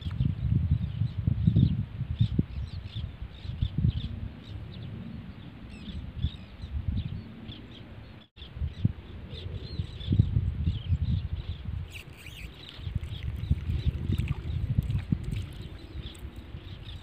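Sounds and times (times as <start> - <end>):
wind rumble on microphone: 0.0 - 17.0
birds chirping: 1.6 - 17.0.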